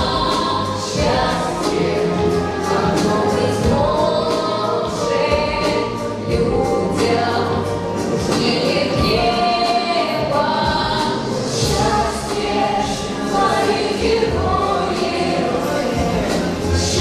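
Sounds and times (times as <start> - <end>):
choir singing: 0.0 - 17.0
musical accompaniment: 0.0 - 17.0.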